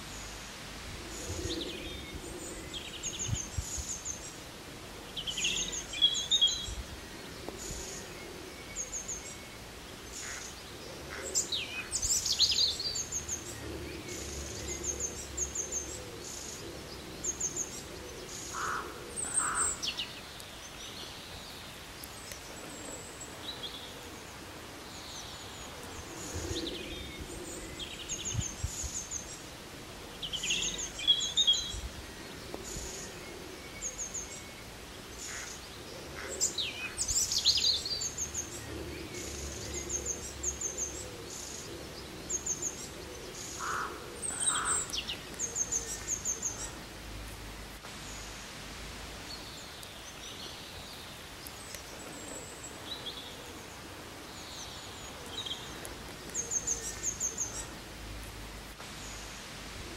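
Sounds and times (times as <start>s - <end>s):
outdoor background hiss: 0.0s - 59.9s
birds singing and chirping: 1.0s - 48.4s, 49.2s - 59.4s.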